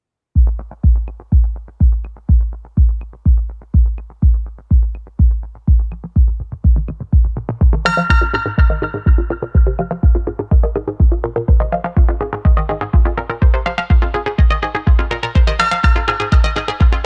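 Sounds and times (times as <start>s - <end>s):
electronic music: 0.4s - 17.0s
heavy kick drum: 0.4s - 17.0s.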